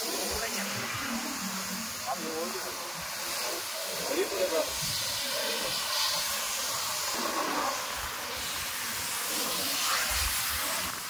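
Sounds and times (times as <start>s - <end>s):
spray gun jetting water: 0.0s - 11.0s.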